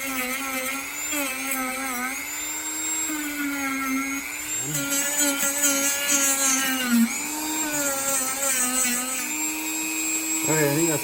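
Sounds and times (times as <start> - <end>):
rotary grinder whining on rubber: 0.0 - 11.0.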